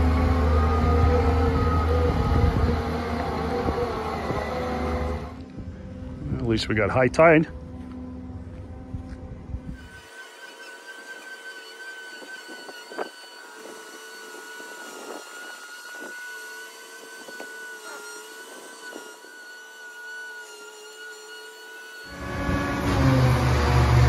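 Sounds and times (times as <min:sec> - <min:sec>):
boat lift drive whining: 0:00.0 - 0:06.2, 0:09.7 - 0:24.0.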